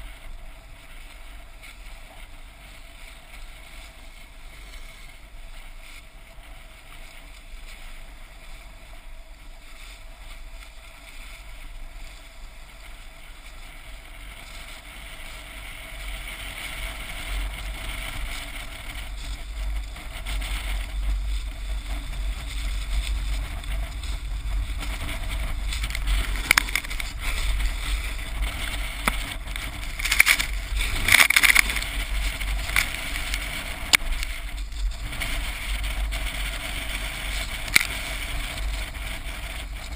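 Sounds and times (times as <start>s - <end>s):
snowboard hissing on snow: 0.0s - 39.9s
snowboard scrapes: 0.0s - 39.9s
wind rumbling on microphone: 0.0s - 39.9s.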